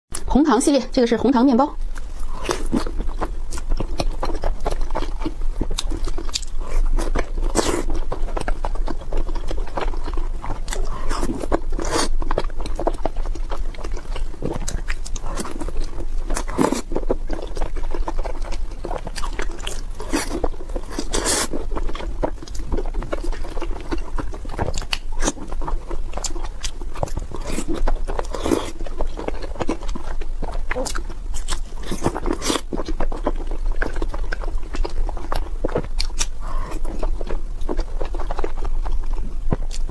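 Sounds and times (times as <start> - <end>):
close-miked chewing: 0.1 - 39.9.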